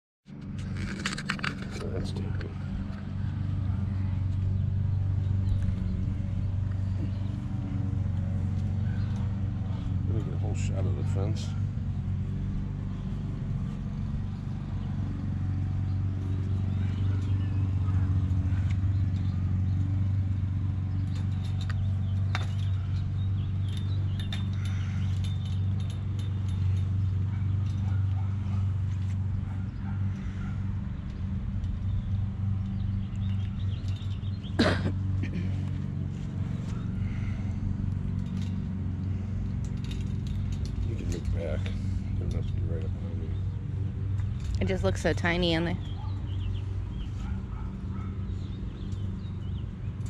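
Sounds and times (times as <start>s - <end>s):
low machine hum: 0.3s - 50.0s.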